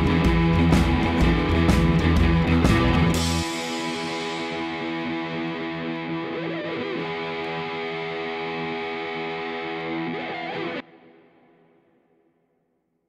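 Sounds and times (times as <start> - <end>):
distorted electric guitar chords: 0.0 - 12.3.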